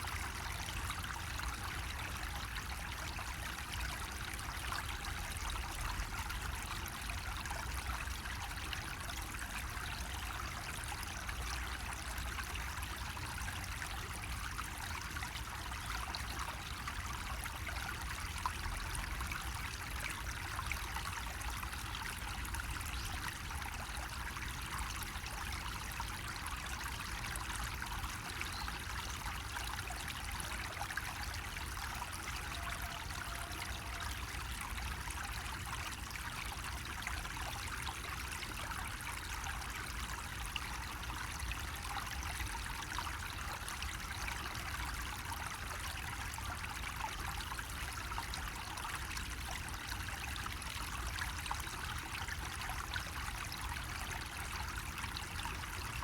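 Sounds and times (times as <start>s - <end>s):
water trickling from spout: 0.0s - 56.0s.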